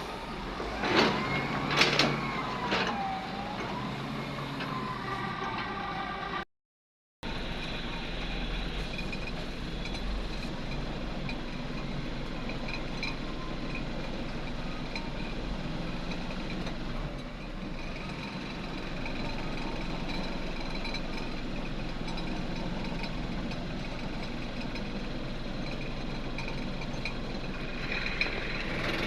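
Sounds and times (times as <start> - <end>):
diesel machinery engine rumble: 0.0 - 6.4, 7.2 - 29.0.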